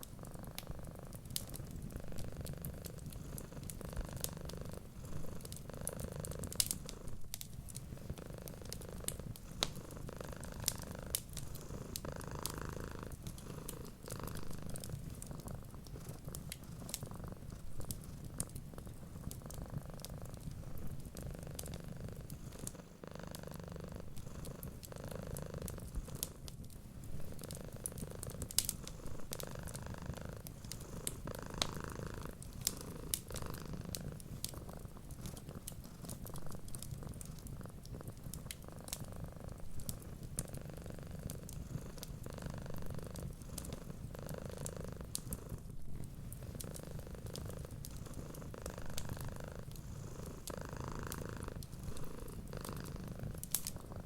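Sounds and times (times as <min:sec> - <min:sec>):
cat purring: 0:00.0 - 0:54.0
wood fire crackles: 0:00.0 - 0:54.0.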